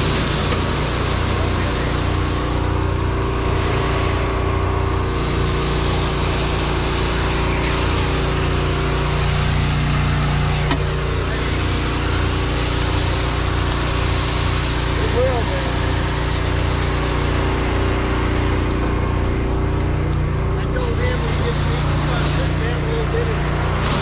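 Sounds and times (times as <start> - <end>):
engine droning: 0.0 - 24.0
hose spraying water on hot metal: 0.0 - 24.0.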